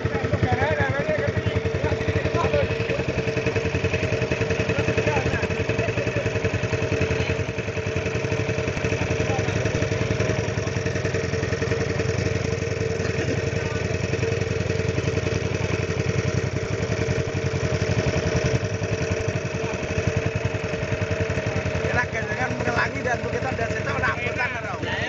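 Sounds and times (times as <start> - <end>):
boat engine chugging: 0.0 - 25.0.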